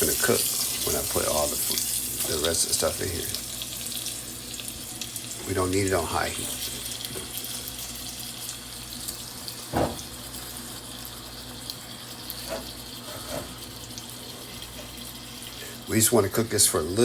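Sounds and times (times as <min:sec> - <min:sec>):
steak sizzling in oil: 0:00.0 - 0:17.0.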